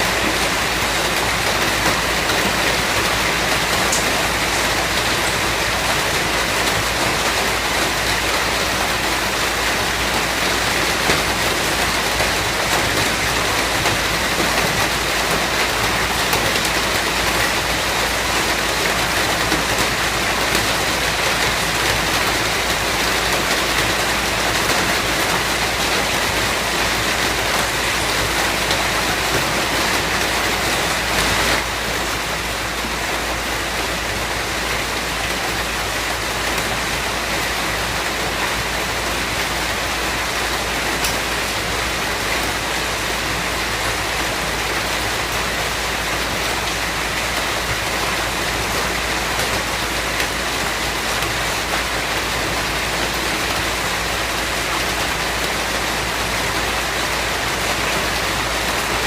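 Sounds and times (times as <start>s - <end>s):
dense rainfall: 0.0s - 59.0s.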